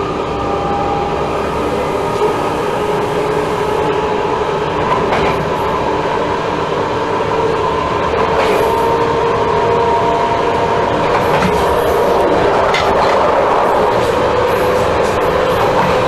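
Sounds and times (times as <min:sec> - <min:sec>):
electric locomotive motor whine: 0:00.0 - 0:16.0
train rumbling on rails: 0:00.0 - 0:16.0.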